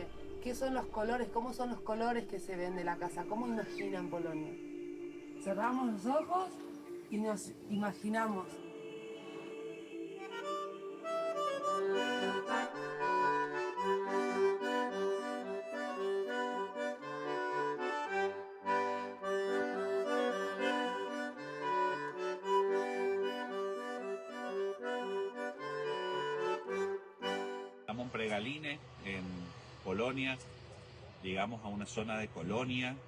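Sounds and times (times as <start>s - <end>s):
accordion music: 0.0s - 28.2s.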